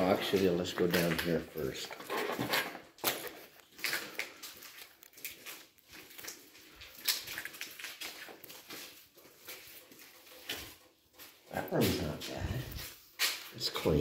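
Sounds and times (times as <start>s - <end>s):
footsteps crunching on concrete: 0.0s - 14.0s.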